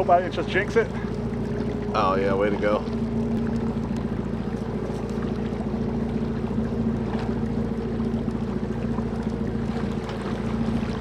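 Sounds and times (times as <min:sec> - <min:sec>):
boat engine humming: 0:00.0 - 0:11.0
rushing water: 0:00.0 - 0:11.0.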